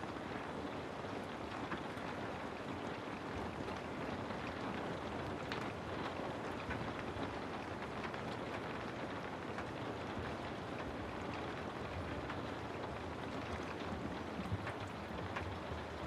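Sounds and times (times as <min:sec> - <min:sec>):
steady rain hiss: 0:00.0 - 0:16.0
raindrops ticking: 0:00.1 - 0:16.0.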